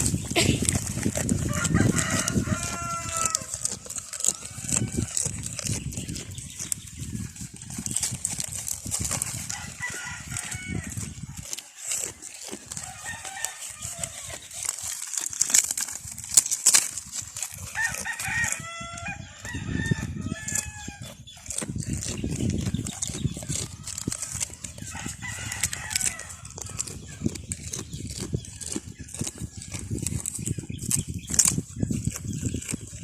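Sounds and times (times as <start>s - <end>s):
chickens calling: 0.0s - 33.0s
goat chewing leaves: 0.0s - 33.0s.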